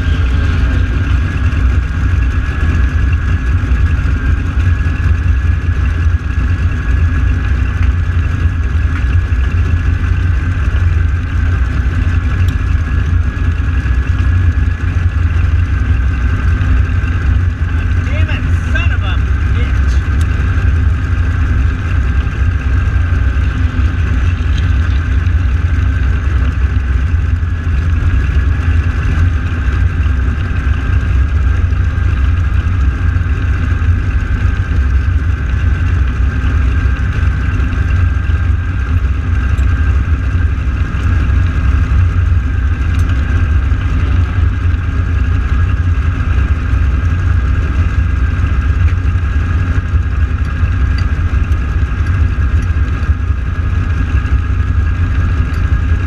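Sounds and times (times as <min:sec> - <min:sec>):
radial piston aircraft engines idling: 0:00.0 - 0:56.0.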